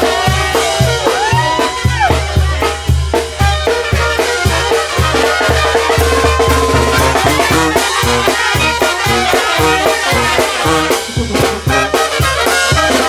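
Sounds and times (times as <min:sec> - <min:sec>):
live brass band playing cumbia: 0:00.0 - 0:13.0.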